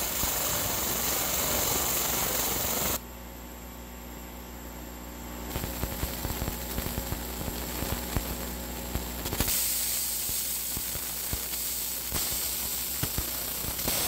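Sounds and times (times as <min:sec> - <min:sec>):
laser engraver hissing: 0:00.0 - 0:03.0, 0:05.5 - 0:14.0.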